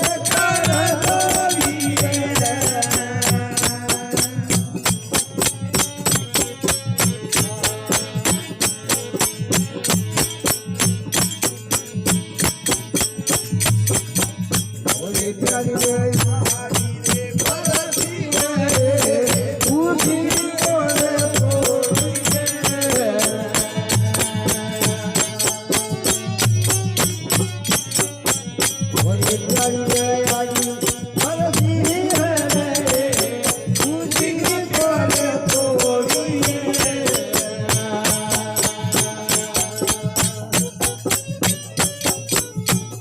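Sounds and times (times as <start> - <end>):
jingling hand percussion: 0.0 - 43.0.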